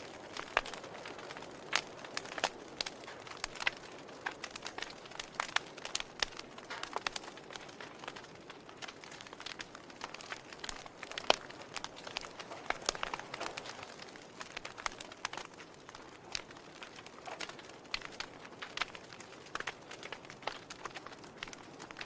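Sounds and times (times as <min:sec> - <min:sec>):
fire crackling: 0:00.0 - 0:22.0
fire popping and snapping: 0:00.0 - 0:22.0
soft steady hiss: 0:00.0 - 0:22.0.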